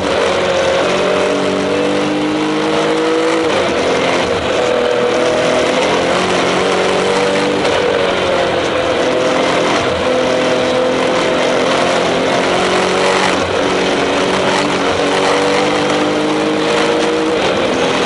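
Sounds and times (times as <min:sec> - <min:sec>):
car engine under full load: 0:00.0 - 0:18.0.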